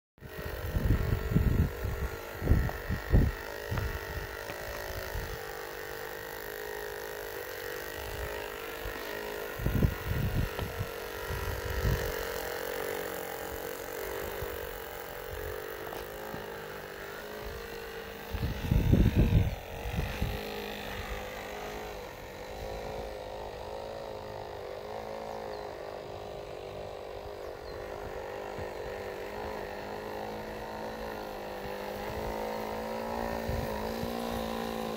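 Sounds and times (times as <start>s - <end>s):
electric motors whining: 0.2s - 34.9s.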